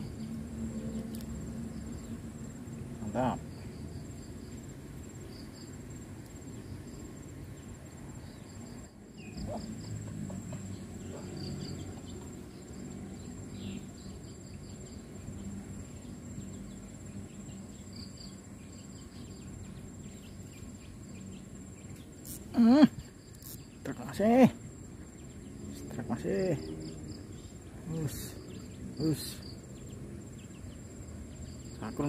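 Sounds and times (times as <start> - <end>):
insect chirps: 0.0 - 32.0
insects trilling: 0.0 - 32.0
low steady background noise: 0.0 - 32.0.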